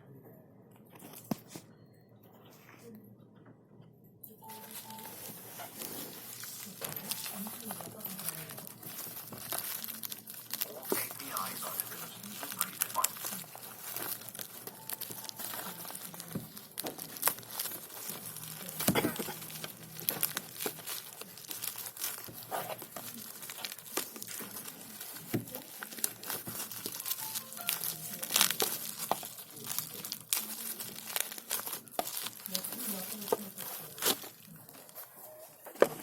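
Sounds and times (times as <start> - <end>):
packaging crinkling: 4.4 - 36.0.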